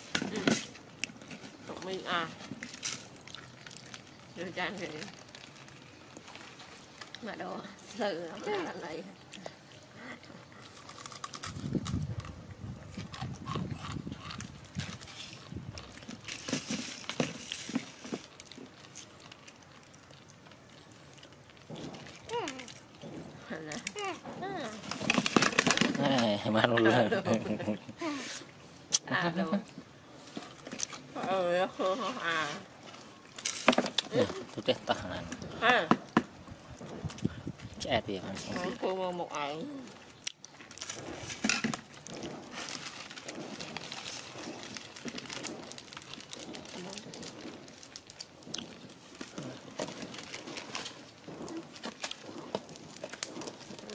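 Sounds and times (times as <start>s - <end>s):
monkeys chewing crumbly snack: 0.0s - 53.9s.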